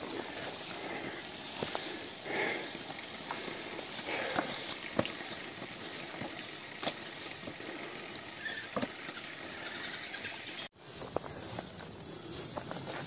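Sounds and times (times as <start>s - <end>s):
footsteps on bamboo footbridge: 0.0s - 9.5s, 10.7s - 13.0s.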